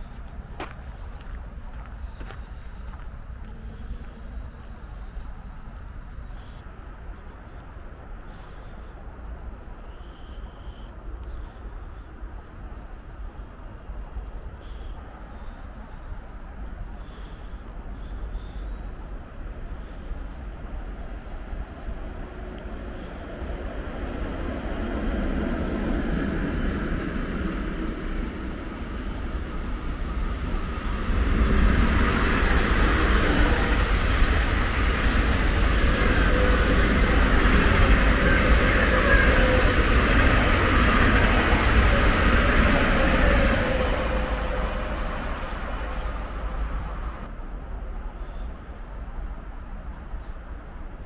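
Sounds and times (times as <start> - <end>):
high rail hum: 0.0 - 51.0
passenger train passing: 0.0 - 51.0.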